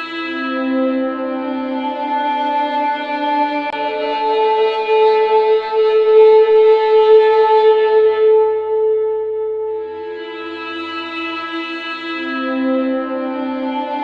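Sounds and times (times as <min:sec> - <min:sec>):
viola long held note: 0:00.0 - 0:14.0.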